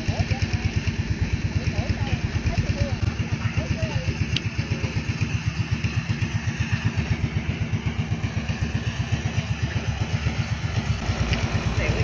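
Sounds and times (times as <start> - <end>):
drone rotors humming: 0.0 - 12.0.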